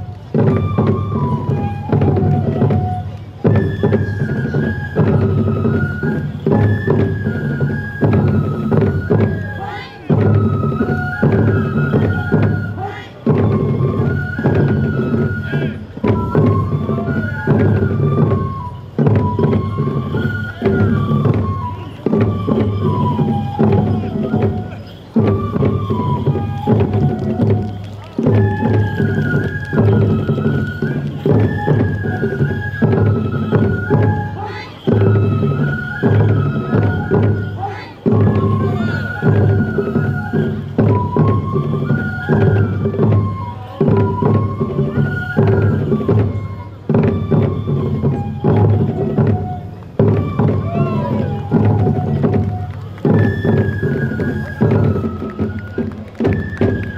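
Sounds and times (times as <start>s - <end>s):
bamboo flute melody: 0.0s - 56.9s
taiko drum beats: 0.0s - 56.9s.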